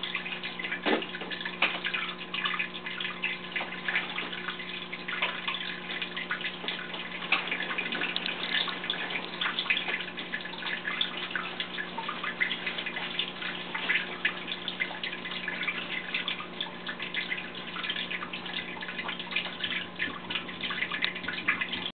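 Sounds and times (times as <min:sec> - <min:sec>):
aquarium water trickling and dripping: 0:00.0 - 0:22.0.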